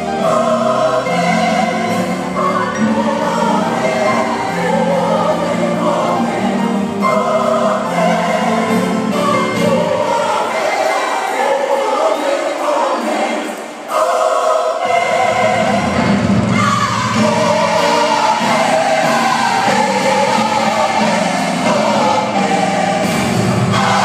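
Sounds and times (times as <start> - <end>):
gospel choir singing: 0.0 - 24.0.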